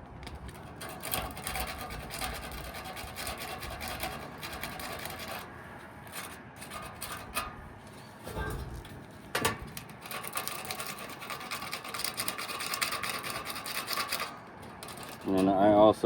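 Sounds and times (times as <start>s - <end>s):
sandpaper rasping on metal shaft: 0.5s - 7.6s, 9.9s - 16.0s.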